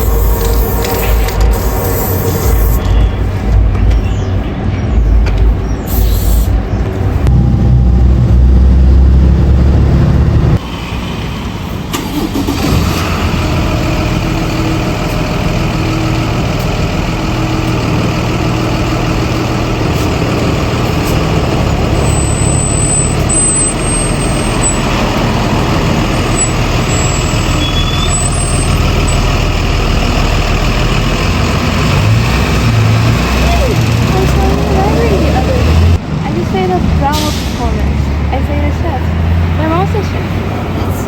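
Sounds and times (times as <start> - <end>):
vehicle engine running: 0.0 - 10.6, 13.1 - 41.0.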